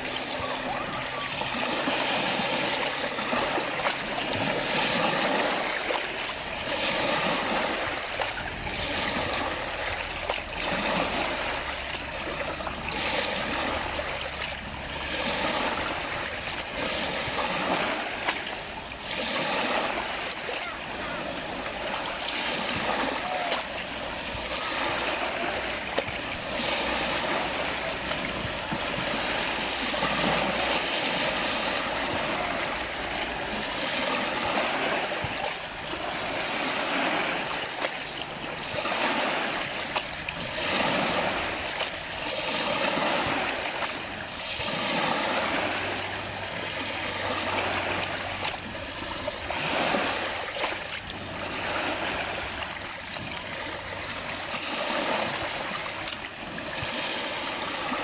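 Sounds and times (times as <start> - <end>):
small waves washing: 0.0 - 58.0.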